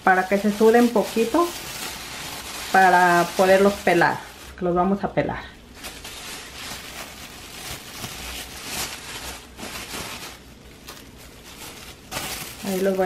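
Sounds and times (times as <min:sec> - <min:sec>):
plastic bag rustling: 0:00.0 - 0:13.0.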